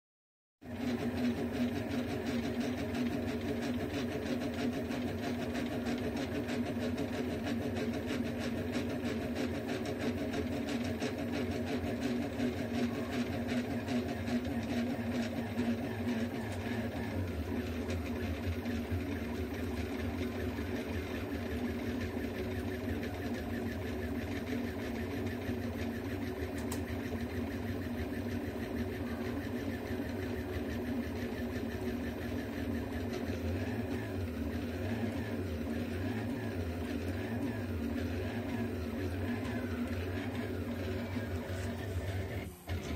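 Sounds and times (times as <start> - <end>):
steady machine hum: 0.6 - 42.9
stepper motors whirring: 0.7 - 42.9.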